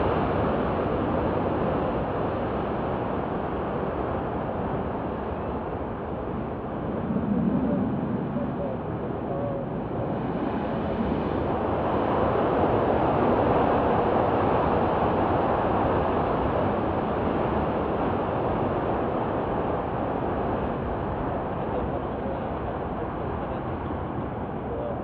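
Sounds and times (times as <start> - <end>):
jet engines roaring on takeoff: 0.0 - 25.0.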